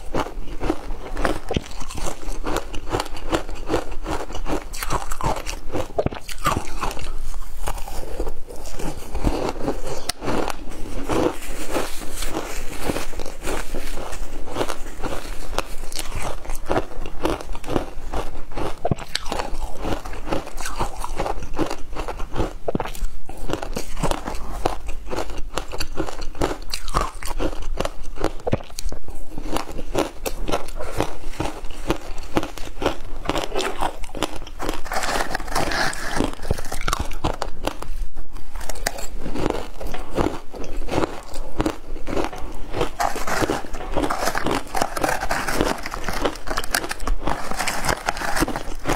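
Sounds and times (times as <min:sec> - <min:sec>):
person crunching ice: 0:00.0 - 0:48.9.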